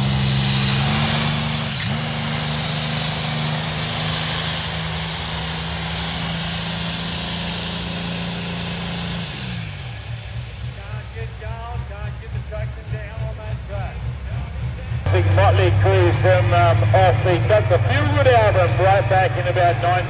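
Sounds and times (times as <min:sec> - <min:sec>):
tractor engine running hard: 0:00.0 - 0:20.0.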